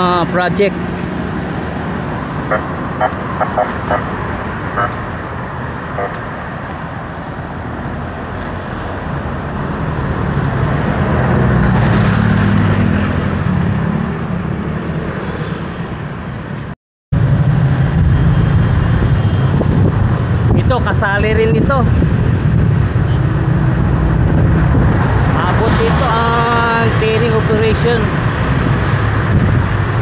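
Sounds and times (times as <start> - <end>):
road noise: 0.0 - 30.0
vehicle engine hum: 0.0 - 30.0.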